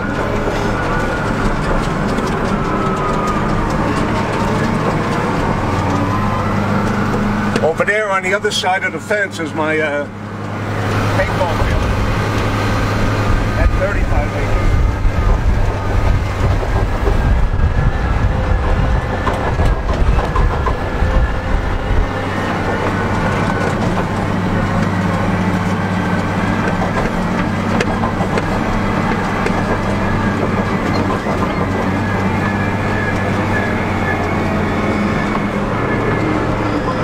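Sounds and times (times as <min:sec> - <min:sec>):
diesel engine rumbling: 0:00.0 - 0:37.0.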